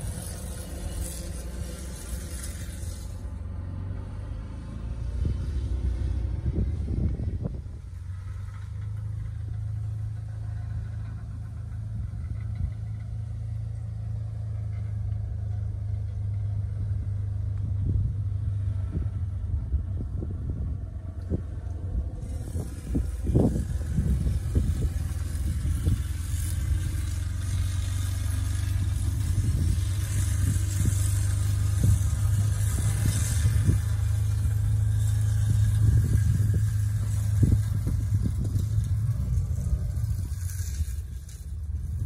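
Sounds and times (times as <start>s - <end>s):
distant engine rumble: 0.0s - 42.0s.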